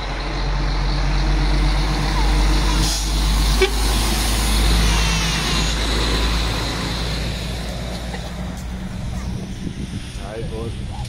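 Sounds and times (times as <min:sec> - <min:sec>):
lorry diesel engine rumbling: 0:00.0 - 0:11.0.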